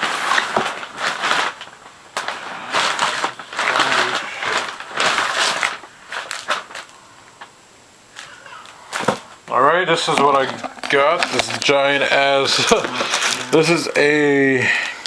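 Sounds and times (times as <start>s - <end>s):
packing material rustling: 0.0s - 7.5s, 8.1s - 15.0s.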